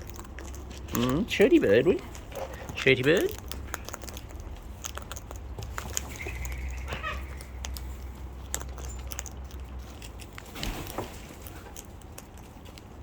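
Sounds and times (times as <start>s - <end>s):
birds cracking seed clicks: 0.0s - 12.9s.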